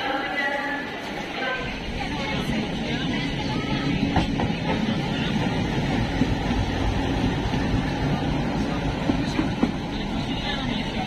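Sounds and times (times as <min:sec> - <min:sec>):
diesel locomotive passing: 0:00.0 - 0:11.0
rumble and clatter of trains: 0:00.0 - 0:11.0.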